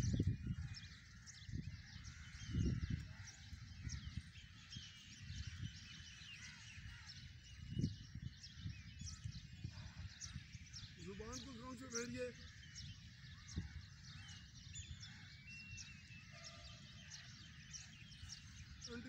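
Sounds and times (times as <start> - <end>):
small birds chirping: 0.0 - 19.0
wind rumbling on microphone: 0.0 - 19.0.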